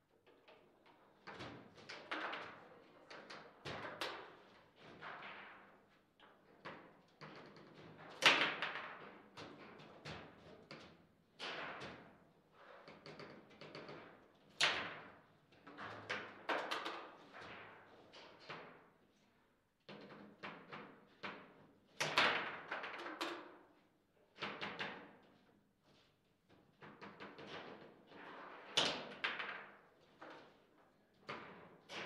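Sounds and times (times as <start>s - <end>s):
table football clacks and knocks: 0.3s - 12.3s, 12.9s - 19.0s, 19.8s - 23.8s, 24.4s - 28.1s, 28.8s - 32.0s.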